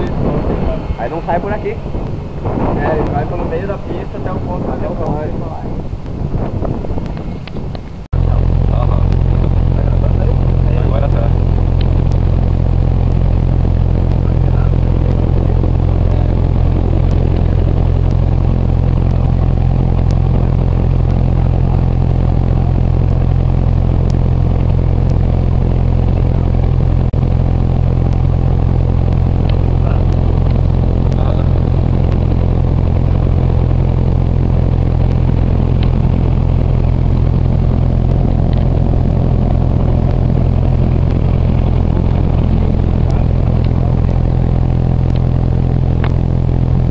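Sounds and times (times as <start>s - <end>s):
airplane engine droning in cabin: 0.0s - 46.9s.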